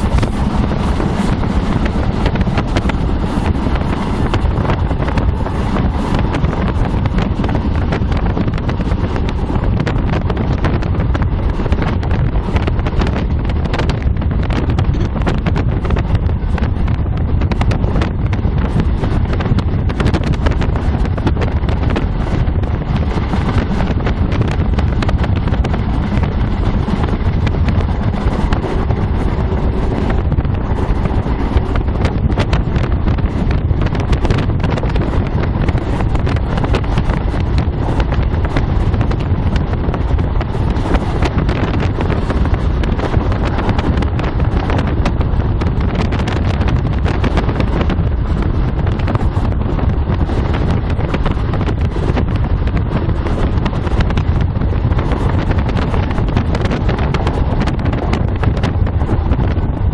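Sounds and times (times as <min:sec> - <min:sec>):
train rumbling: 0:00.0 - 0:59.9
wind buffeting microphone: 0:00.0 - 0:59.9.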